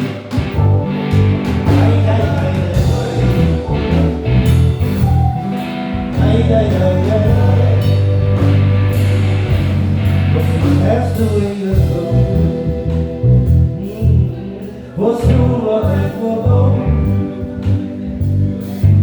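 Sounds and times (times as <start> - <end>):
drums: 0.0 - 16.0
electric bass: 0.0 - 19.0
keyboard chords: 0.0 - 19.0
wavering lead melody: 0.4 - 19.0.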